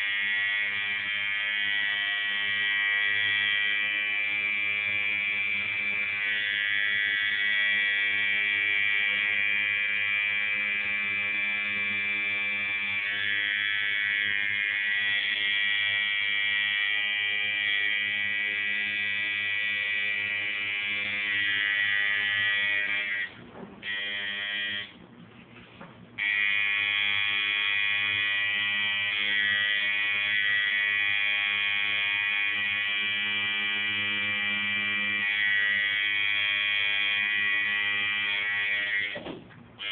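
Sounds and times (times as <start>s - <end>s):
tattoo machine buzzing: 0.0s - 25.0s, 26.2s - 39.9s.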